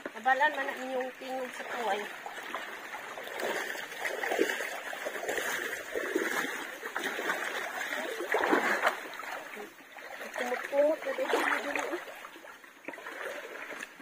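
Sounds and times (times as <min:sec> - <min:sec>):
creek water splashing: 0:00.0 - 0:14.0.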